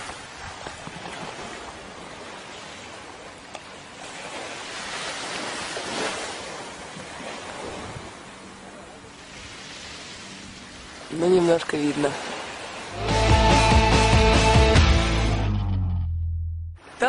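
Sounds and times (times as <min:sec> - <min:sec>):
sea surf washing on shore: 0:00.0 - 0:13.7.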